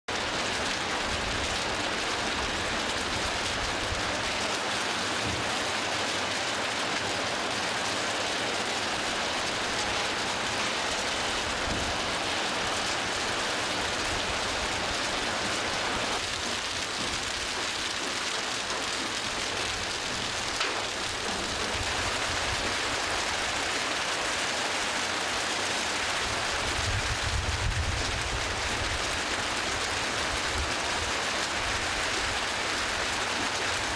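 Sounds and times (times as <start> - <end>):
hail and rain pelting road: 0.1 - 33.9.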